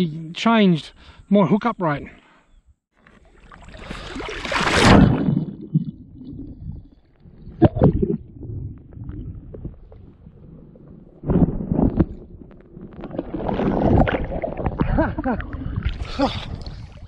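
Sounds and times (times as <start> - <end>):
water sloshing and gurgling: 2.9 - 17.0
muffled underwater rushing water: 3.0 - 17.0.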